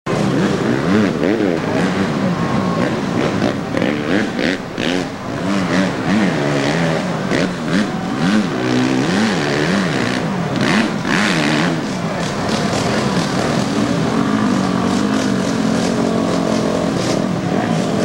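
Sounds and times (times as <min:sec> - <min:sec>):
off-road engine revving: 0:00.1 - 0:18.0.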